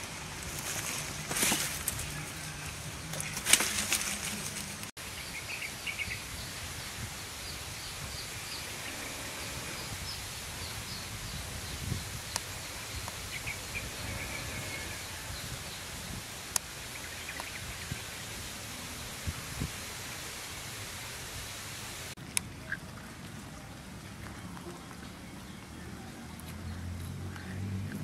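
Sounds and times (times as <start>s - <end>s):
leaves rustling: 0.0s - 27.8s.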